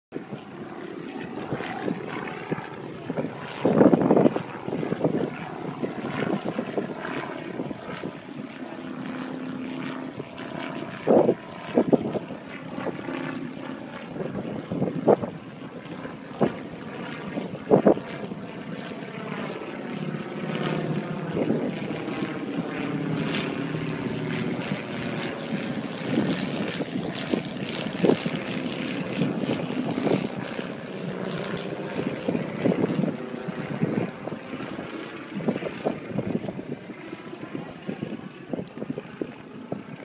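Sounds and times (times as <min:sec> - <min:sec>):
biplane engine droning overhead: 0:00.1 - 0:40.0.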